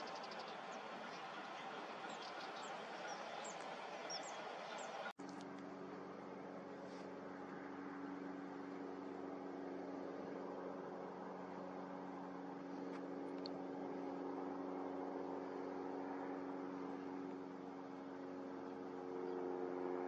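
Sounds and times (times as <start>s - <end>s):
drone propellers humming: 0.0s - 20.0s.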